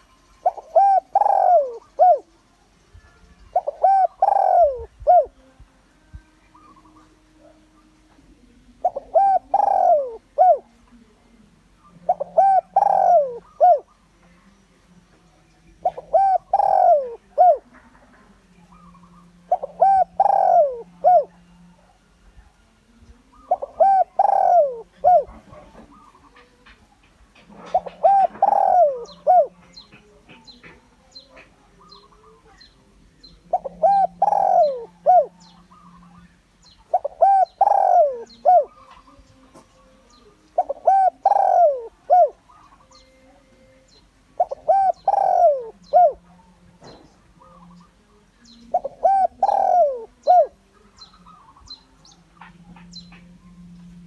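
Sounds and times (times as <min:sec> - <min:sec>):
dove cooing: 0:00.0 - 0:02.4, 0:03.5 - 0:05.6, 0:06.5 - 0:10.8, 0:11.8 - 0:14.1, 0:15.8 - 0:22.5, 0:23.2 - 0:48.0, 0:48.7 - 0:54.0.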